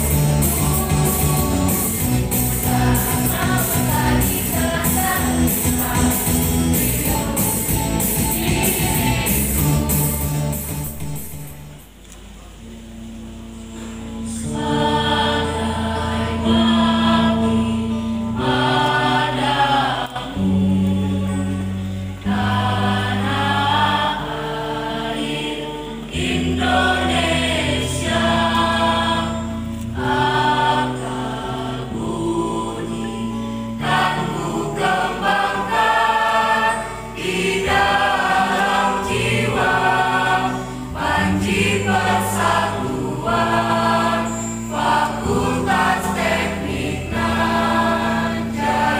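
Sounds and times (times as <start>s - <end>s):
choir singing in parts: 0.0s - 12.0s, 14.2s - 48.9s.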